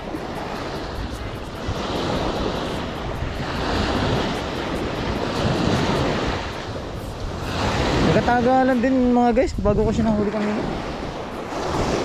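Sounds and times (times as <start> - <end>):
sea surf breaking: 0.0 - 12.0
wind rumbling on microphone: 0.0 - 12.0.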